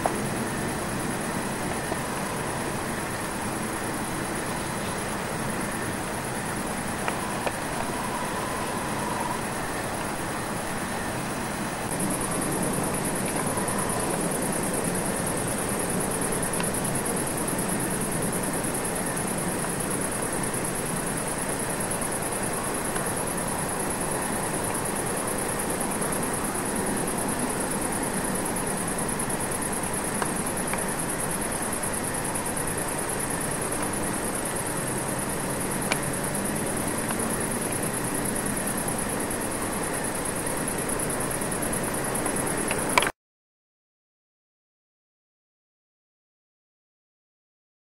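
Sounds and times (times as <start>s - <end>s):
background hiss and rumble: 0.0s - 43.0s.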